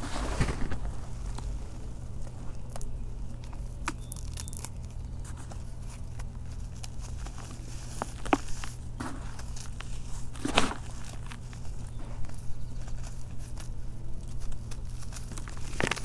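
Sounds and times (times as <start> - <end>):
hands crumbling dry dirt: 0.0 - 16.0
steady low hum: 0.0 - 16.0
falling crumbs clicking: 0.4 - 16.0.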